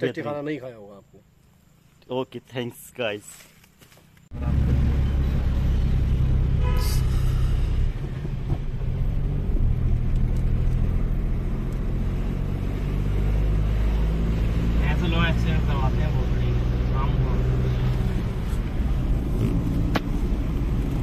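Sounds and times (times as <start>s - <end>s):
engine and tyre rumble: 0.0s - 21.0s.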